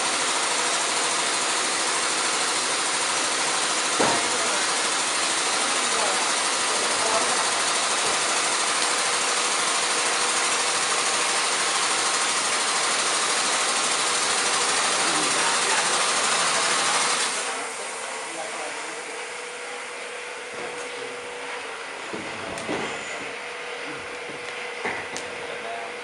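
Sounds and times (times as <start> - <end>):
loud mechanical rushing noise: 0.0 - 25.5.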